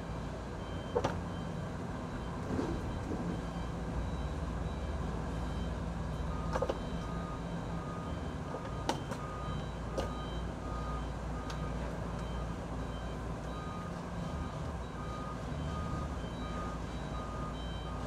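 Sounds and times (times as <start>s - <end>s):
reversing alarm beeping: 0.0s - 18.0s.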